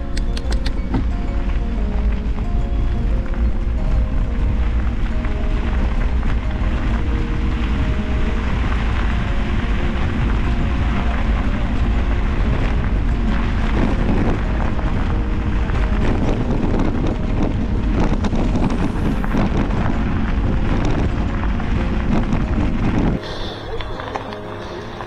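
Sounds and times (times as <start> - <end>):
bike tyres crunching on gravel: 0.0 - 25.0
wind buffeting microphone: 0.0 - 25.0.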